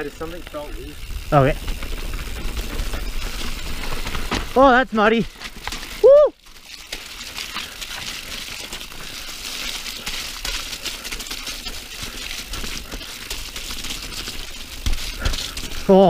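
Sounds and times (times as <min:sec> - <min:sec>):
bike clicks and rattles: 0:00.0 - 0:16.0
bike tyres rushing on dirt: 0:00.0 - 0:16.0.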